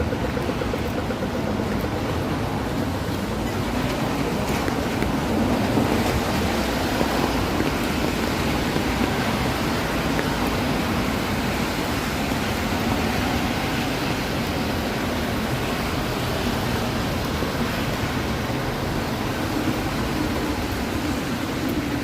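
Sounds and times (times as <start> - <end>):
passing traffic rush: 0.0 - 22.0.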